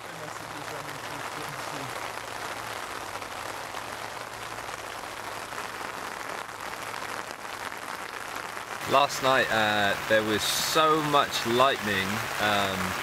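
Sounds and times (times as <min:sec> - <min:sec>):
rain pattering on tent: 0:00.0 - 0:13.0.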